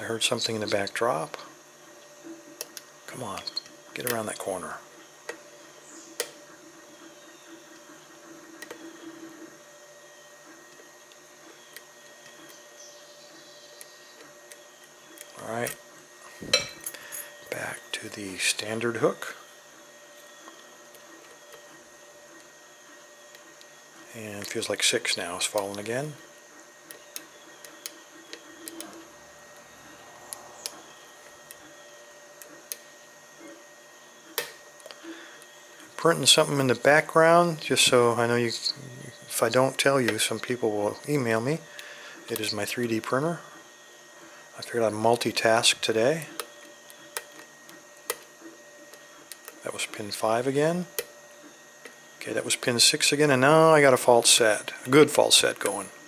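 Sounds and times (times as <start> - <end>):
three d printer whir: 0.0 - 56.0.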